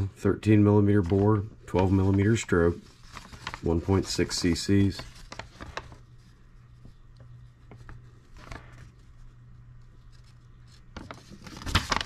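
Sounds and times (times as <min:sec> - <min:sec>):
low steady hum: 0:00.0 - 0:12.0
paper rustling: 0:00.7 - 0:12.0.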